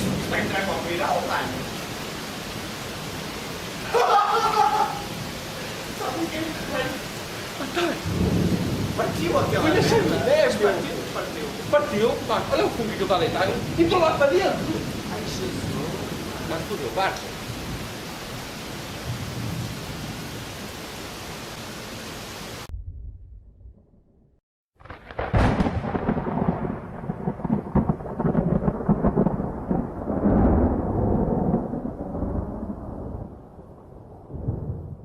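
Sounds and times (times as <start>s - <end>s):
thunder crack: 0.0s - 1.8s, 4.0s - 17.9s, 22.6s - 35.0s
rolling rumble of thunder: 0.0s - 3.8s, 4.4s - 20.5s, 22.6s - 35.0s
steady rain hiss: 0.0s - 22.7s, 24.8s - 34.7s.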